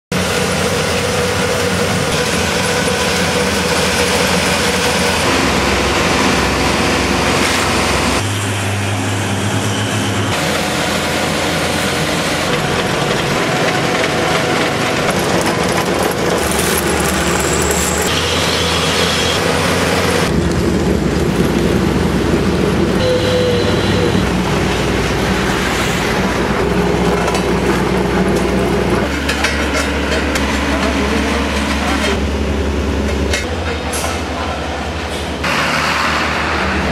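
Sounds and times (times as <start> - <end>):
road roller engine: 0.1 - 36.9
road-milling machine engine: 0.1 - 36.9.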